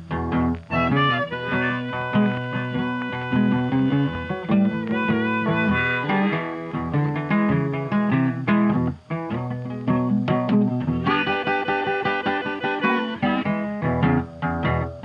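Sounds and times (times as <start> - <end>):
guitar background music: 0.0 - 15.0.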